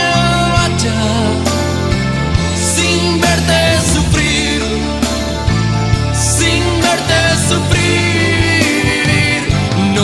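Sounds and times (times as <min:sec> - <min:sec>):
song with sliding melody: 0:00.0 - 0:10.0.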